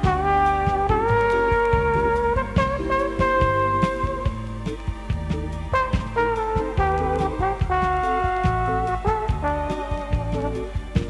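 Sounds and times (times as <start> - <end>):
brass section long notes: 0.0 - 4.6, 5.7 - 10.8
light drum hits: 0.0 - 11.0
stepping bass line: 0.0 - 11.0.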